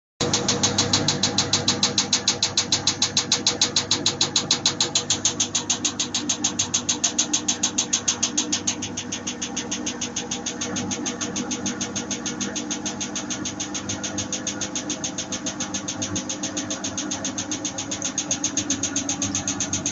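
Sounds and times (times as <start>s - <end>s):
washing machine clicking: 0.2s - 19.9s
washing machine drum hum: 0.2s - 19.9s.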